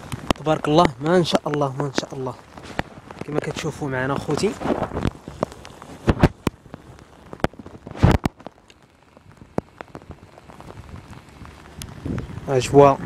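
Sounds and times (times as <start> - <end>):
faint hiss of rain: 0.0 - 13.0
raindrops tapping on microphone: 0.0 - 13.0.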